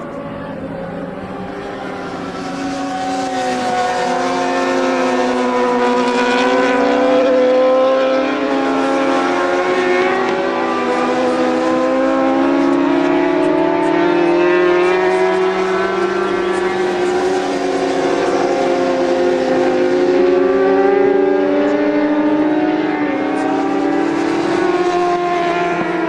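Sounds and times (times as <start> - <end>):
motorcycle engines racing: 0.0 - 26.0.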